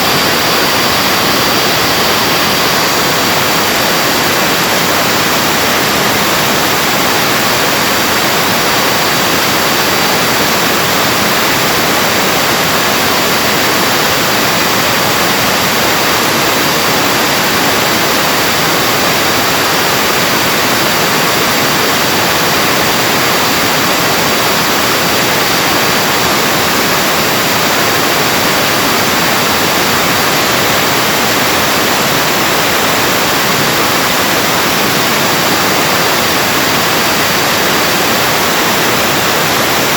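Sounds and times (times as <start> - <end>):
thin high whine: 0.0 - 39.9
vacuum cleaner running: 0.0 - 39.9.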